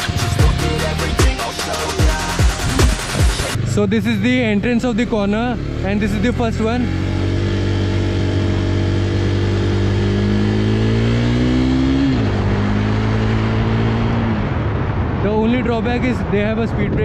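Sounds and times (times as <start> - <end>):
motorcycle engine revving: 0.0 - 15.1.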